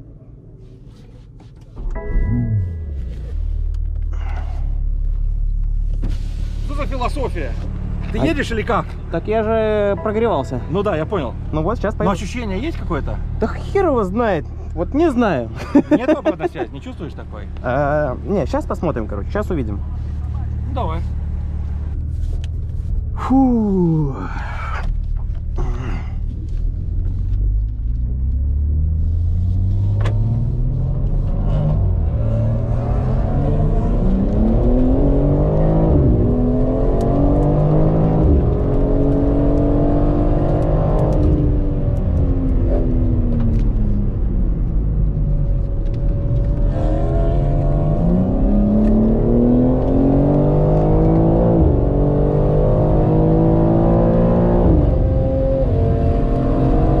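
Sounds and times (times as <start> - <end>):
car engine accelerating hard: 1.8 - 57.0.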